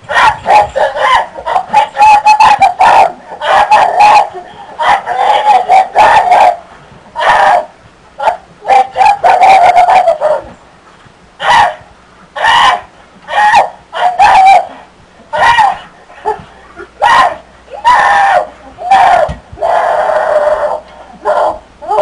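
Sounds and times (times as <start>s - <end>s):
person squawking screams: 0.1s - 6.6s, 7.2s - 10.5s, 12.4s - 22.0s.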